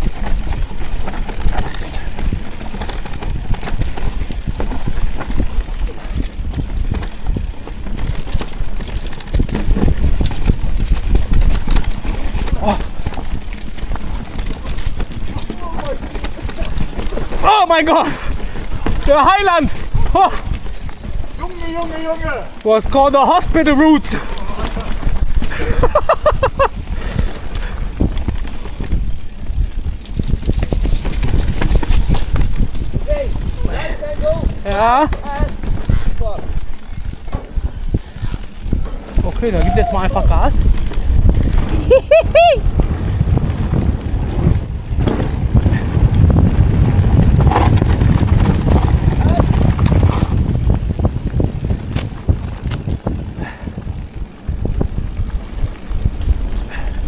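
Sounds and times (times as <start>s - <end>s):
wind on microphone: 0.0s - 17.4s, 23.8s - 57.0s
bike knocking and rattling: 0.0s - 57.0s
bike rumbling on rough trail: 0.0s - 57.0s.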